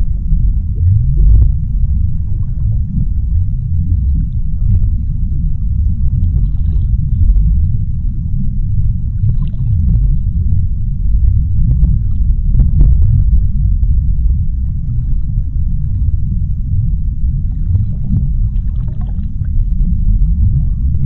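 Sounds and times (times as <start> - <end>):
low underwater rumble: 0.0 - 21.0
faint clicks and crackles: 0.1 - 21.0.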